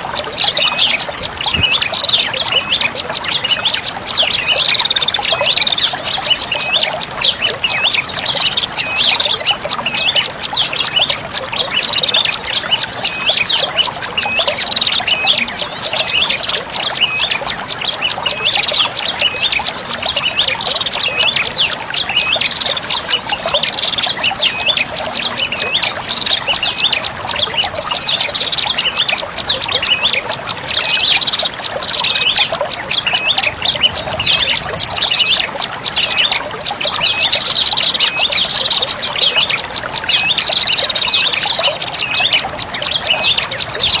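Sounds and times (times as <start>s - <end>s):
bird lure call rapid high chirping: 0.0s - 44.0s.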